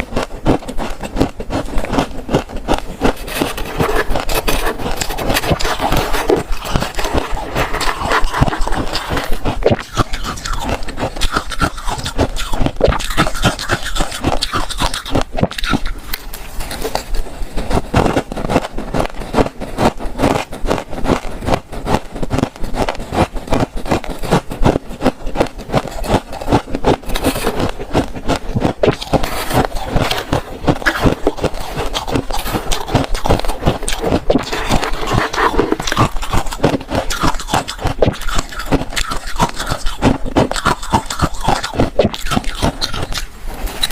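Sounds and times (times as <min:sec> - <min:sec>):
crunching and chewing frost: 0:00.0 - 0:43.9.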